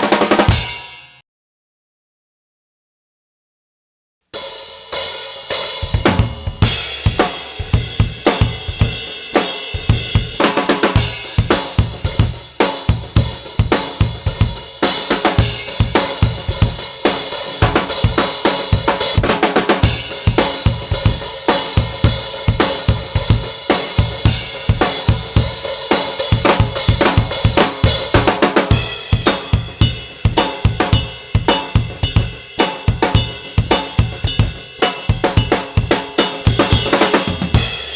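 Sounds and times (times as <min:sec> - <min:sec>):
snare drum: 0:00.0 - 0:01.0, 0:05.1 - 0:37.9
cymbals: 0:04.4 - 0:37.9.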